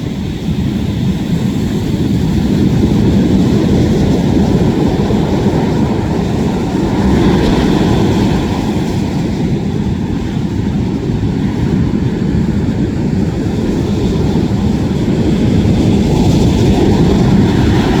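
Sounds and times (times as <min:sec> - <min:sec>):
heavy surf breaking on shore: 0:00.0 - 0:18.0.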